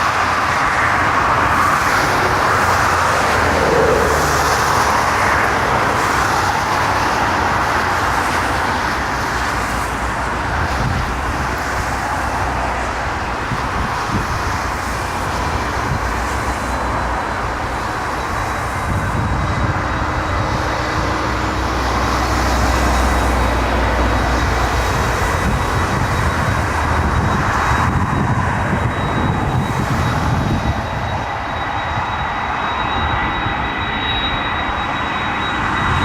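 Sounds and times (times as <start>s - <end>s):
high engine whine: 0.0s - 36.0s
jet engines rumbling: 0.0s - 36.0s.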